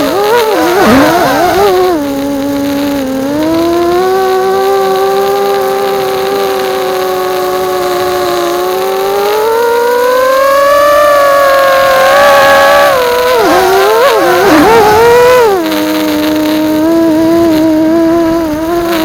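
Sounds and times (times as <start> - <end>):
quadcopter propellers whining: 0.0 - 19.0.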